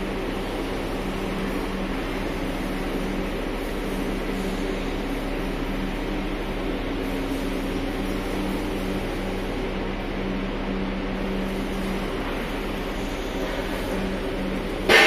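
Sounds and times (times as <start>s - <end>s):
machine motors humming: 0.0s - 15.0s.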